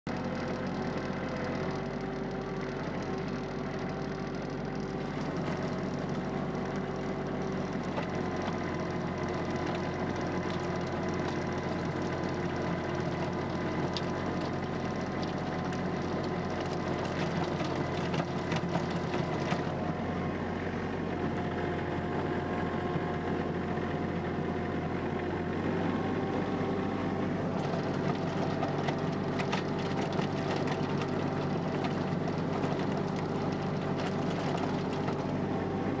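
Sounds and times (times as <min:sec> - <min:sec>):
rotary tiller through soil: 0:00.1 - 0:22.3, 0:25.6 - 0:36.0
tractor diesel engine under load: 0:00.1 - 0:36.0.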